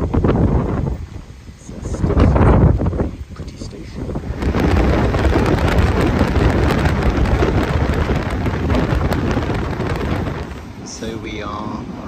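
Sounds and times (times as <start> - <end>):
train rumbling on track: 0.0 - 12.0
wind rushing over microphone: 0.0 - 12.0.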